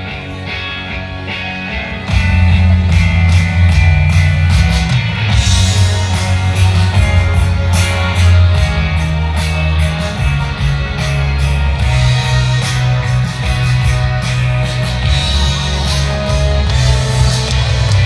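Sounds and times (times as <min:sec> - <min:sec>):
rock music with guitar: 0:00.0 - 0:18.0
steady bass line: 0:00.0 - 0:18.0.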